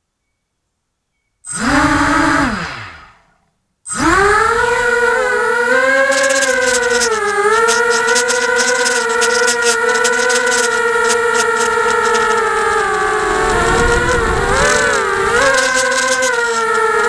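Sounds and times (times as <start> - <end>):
drone motors whining: 1.5 - 3.3, 3.9 - 17.0.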